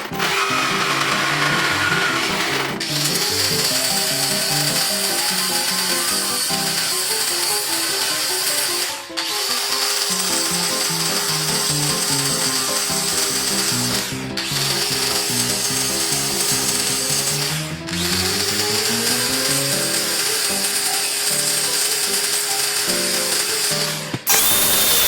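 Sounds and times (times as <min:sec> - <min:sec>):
background music: 0:00.0 - 0:25.0
power tool hissing: 0:00.0 - 0:25.0.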